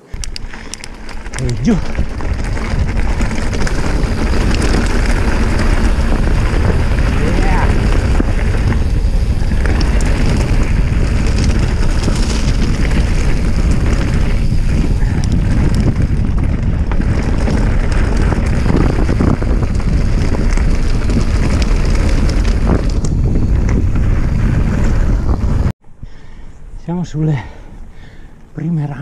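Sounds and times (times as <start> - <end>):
bike rattling over stones: 0.0 - 25.7
wind buffeting microphone: 0.0 - 26.8.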